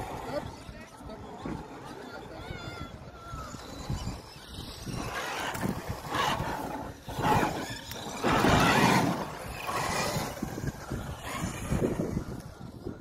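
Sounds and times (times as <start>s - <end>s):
rc truck motor surging: 0.0s - 13.0s
wind buffeting microphone: 0.0s - 13.0s.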